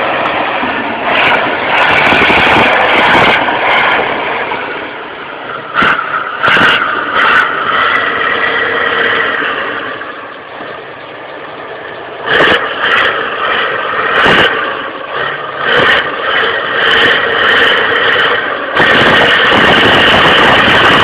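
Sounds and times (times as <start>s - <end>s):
tractor engine revving: 0.0s - 21.0s.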